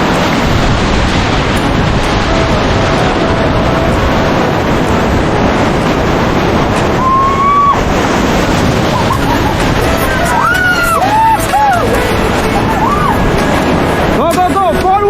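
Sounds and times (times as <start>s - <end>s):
rushing river water: 0.0s - 15.0s
wind buffeting microphone: 0.0s - 15.0s.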